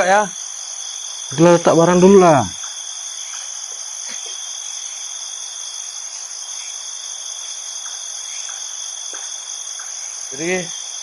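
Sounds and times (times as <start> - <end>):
crickets and insects trilling: 0.0 - 11.0.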